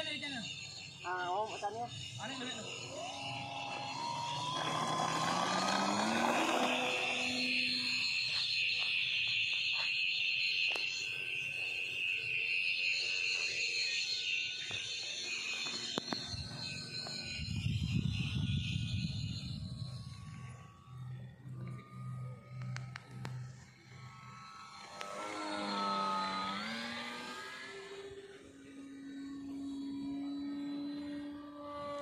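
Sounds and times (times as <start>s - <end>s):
model plane motor buzzing: 0.0s - 32.0s.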